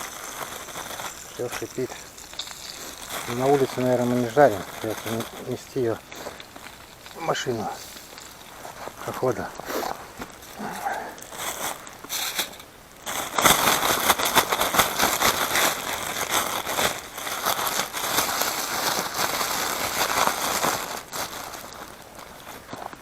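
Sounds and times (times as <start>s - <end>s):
fish sizzling in hot oil: 0.0s - 22.7s.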